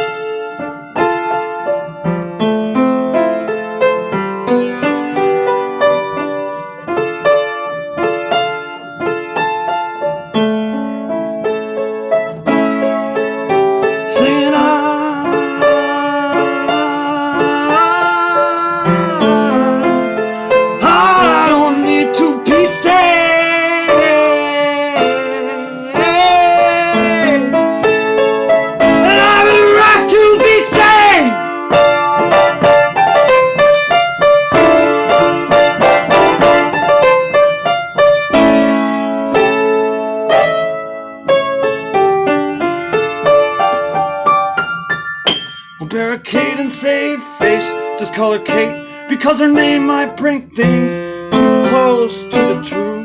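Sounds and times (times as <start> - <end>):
solo piano playing: 0.0 - 53.0.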